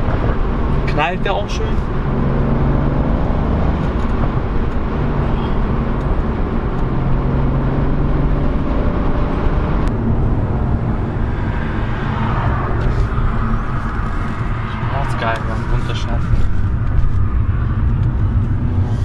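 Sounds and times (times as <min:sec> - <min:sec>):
car engine running from cabin: 0:00.0 - 0:19.0.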